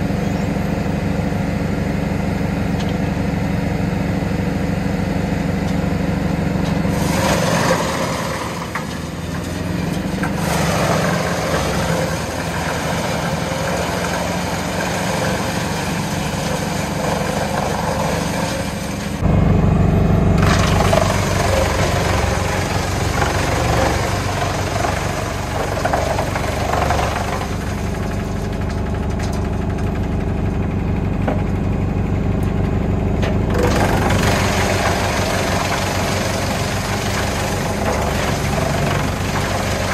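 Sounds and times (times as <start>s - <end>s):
wood chipper engine drone: 0.0s - 39.9s.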